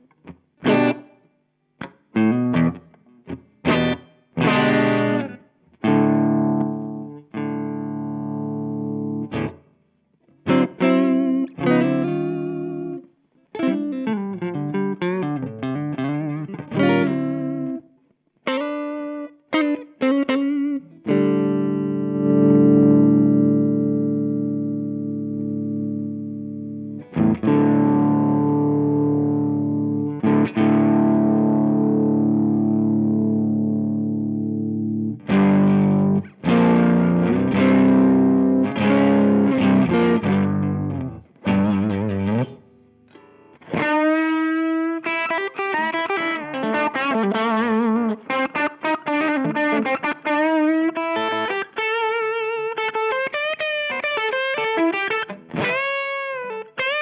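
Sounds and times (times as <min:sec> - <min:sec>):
overdriven electric guitar: 0:00.0 - 0:57.0.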